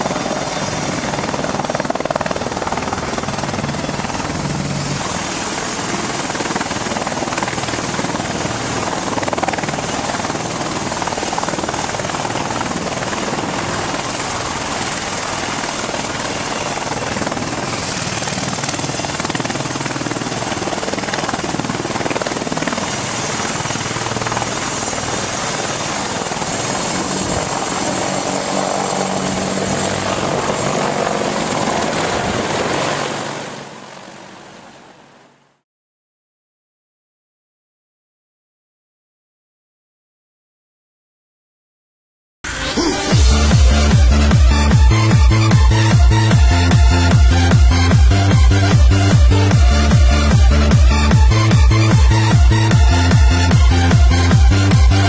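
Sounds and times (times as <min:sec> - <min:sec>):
helicopter rotors and engines: 0:00.0 - 0:35.6, 0:42.5 - 0:55.0.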